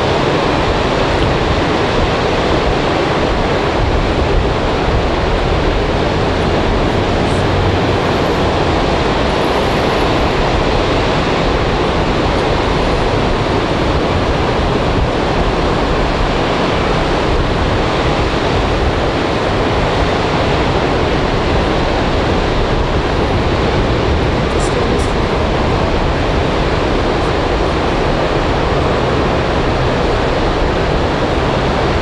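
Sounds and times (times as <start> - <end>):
surf roaring on beach: 0.0 - 32.0.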